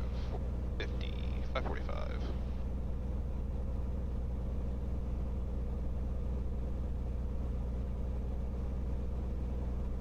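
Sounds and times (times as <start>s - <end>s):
aircraft engine idling: 0.0s - 10.0s.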